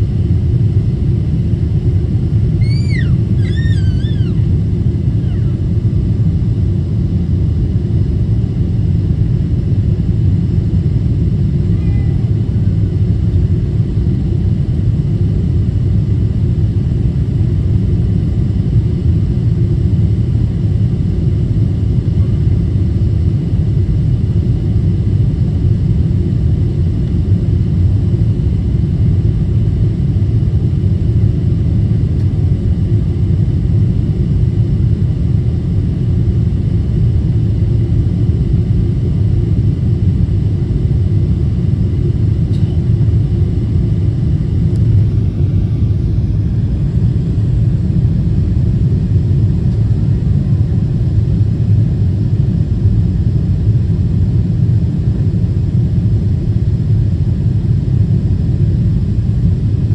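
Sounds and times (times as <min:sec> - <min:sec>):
airplane engines rumbling: 0:00.0 - 0:59.9.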